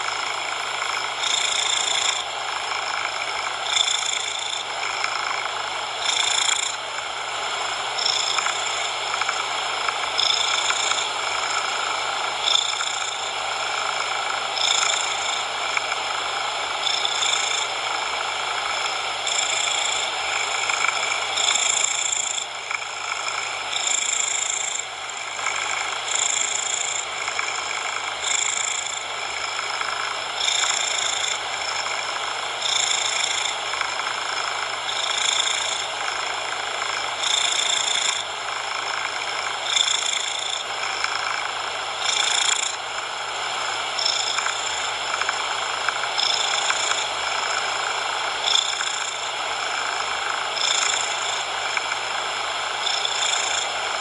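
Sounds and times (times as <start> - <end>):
cat purring: 0.0 - 54.0
steady noise hiss: 0.0 - 54.0.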